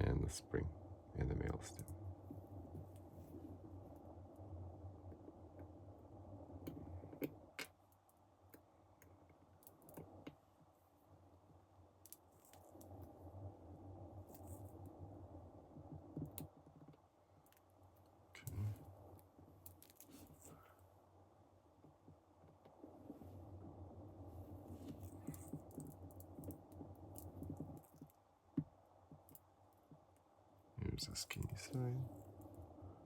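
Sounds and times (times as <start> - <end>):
low hum: 0.0 - 7.6, 11.1 - 16.4, 17.0 - 28.1, 30.4 - 33.0.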